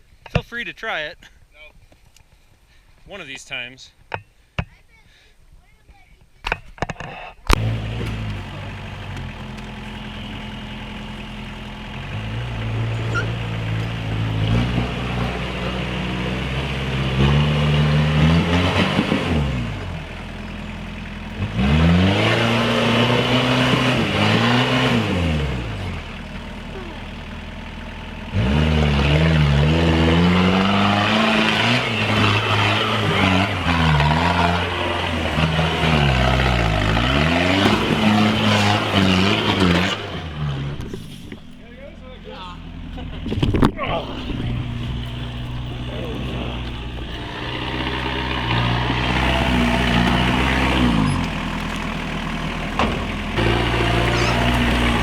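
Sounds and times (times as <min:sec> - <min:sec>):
off-road vehicle engine revving: 0:07.5 - 0:55.0.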